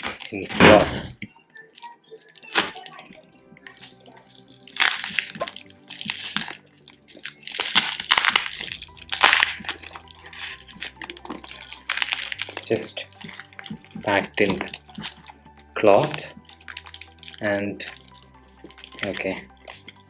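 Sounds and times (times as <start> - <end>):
plastic packaging crinkling: 0.0 - 0.9, 1.6 - 20.0.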